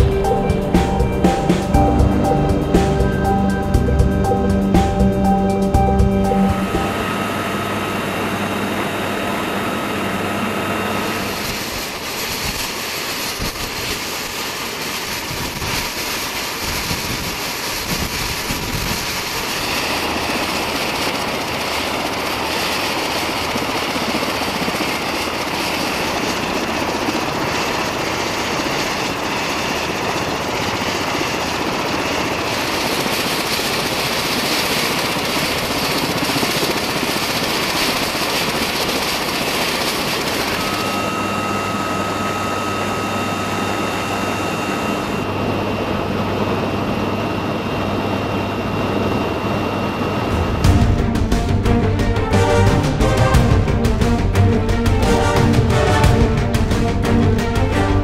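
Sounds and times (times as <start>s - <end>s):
helicopter turbine and rotor noise: 0.0s - 58.0s.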